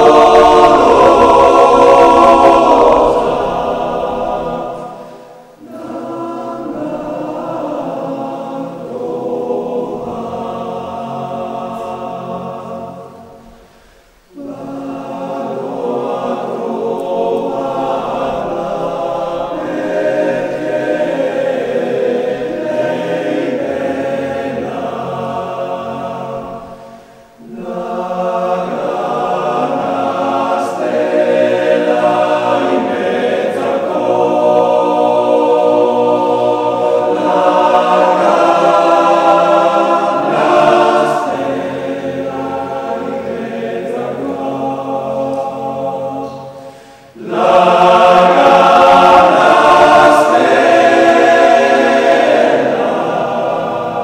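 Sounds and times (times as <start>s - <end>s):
choir singing held phrases: 0.0s - 54.0s.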